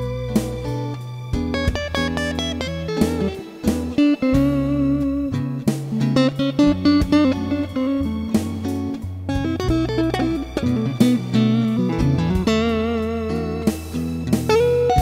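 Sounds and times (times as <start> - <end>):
bass line: 0.0 - 15.0
guitar lines: 0.0 - 15.0.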